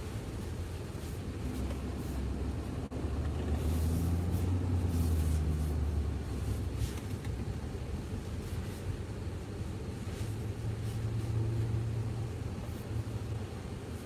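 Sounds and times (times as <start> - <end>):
diesel engine and road noise drone: 0.0 - 14.0.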